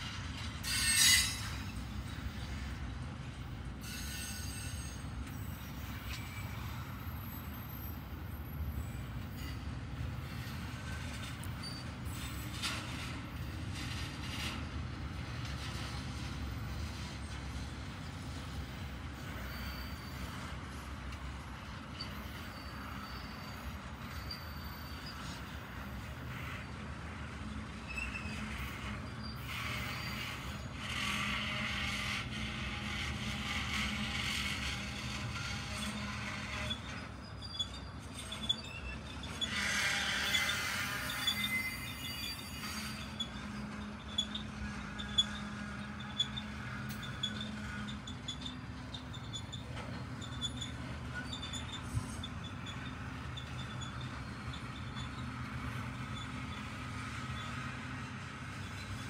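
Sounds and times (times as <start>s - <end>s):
train wheels rumbling on rail: 0.0s - 59.0s
high wheel squeal: 0.3s - 59.0s.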